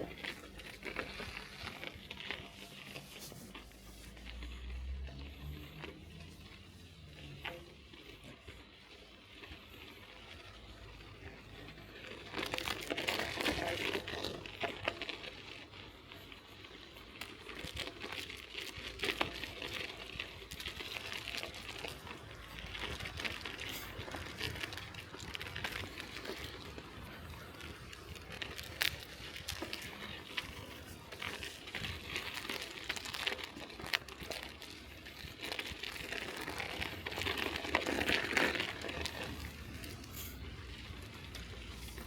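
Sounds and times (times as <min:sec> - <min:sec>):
bicycle tyres crunching snow: 0:00.0 - 0:42.0.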